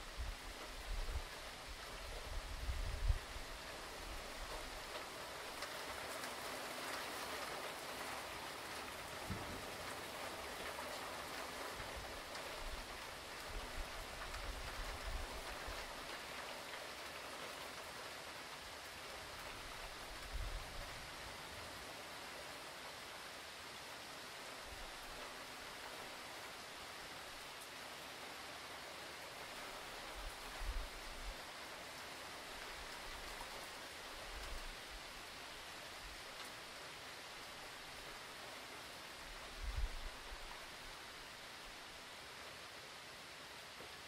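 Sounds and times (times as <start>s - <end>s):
rain falling hiss: 0.0s - 44.0s.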